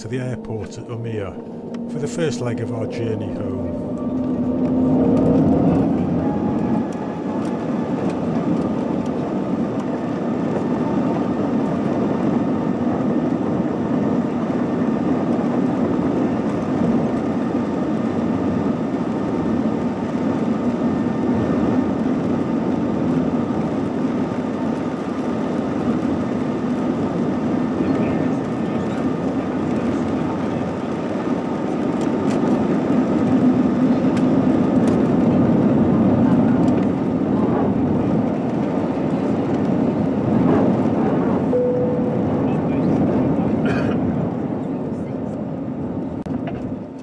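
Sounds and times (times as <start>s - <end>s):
jet engines rushing: 0.0s - 46.2s
faint engine whine: 0.0s - 47.0s.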